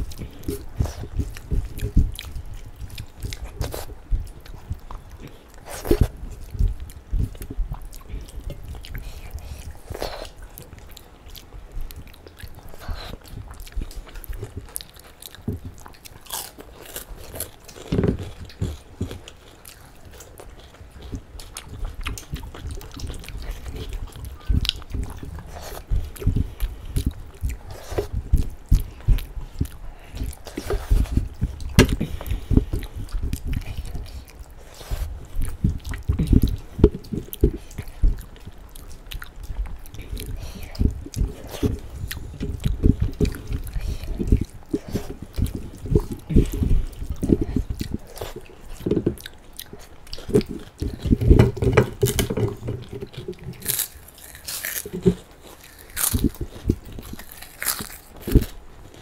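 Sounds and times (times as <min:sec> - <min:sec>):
people chewing: 0:00.0 - 0:59.0.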